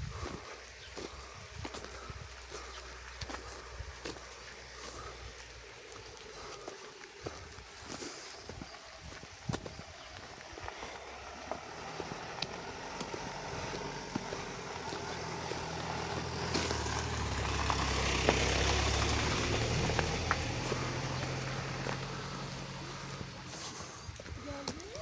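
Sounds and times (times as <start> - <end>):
car engine idling: 0.0 - 8.5, 9.8 - 25.0.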